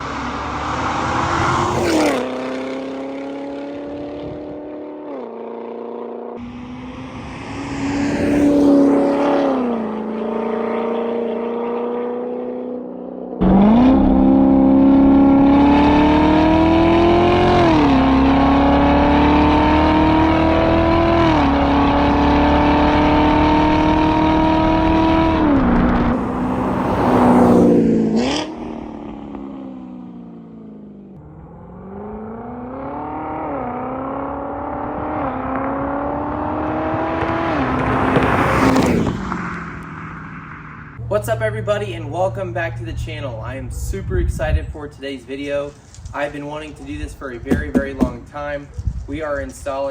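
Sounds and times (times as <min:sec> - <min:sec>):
sports car engine accelerating hard: 0:00.0 - 0:42.9.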